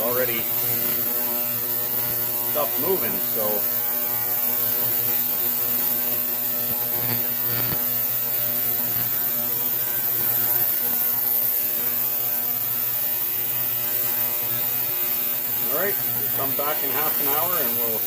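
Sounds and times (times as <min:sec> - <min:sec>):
ultrasonic cleaner buzzing hum: 0:00.0 - 0:18.0.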